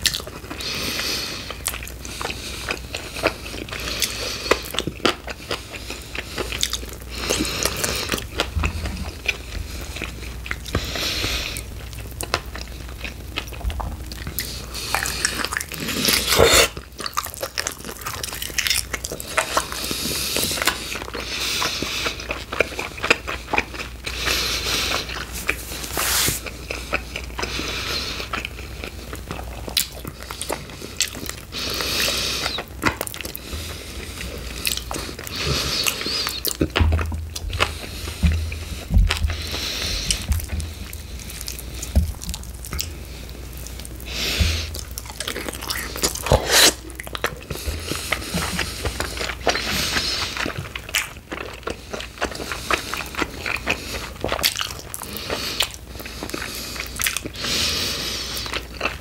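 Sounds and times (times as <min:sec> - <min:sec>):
biting and chewing: 0:00.0 - 0:59.0.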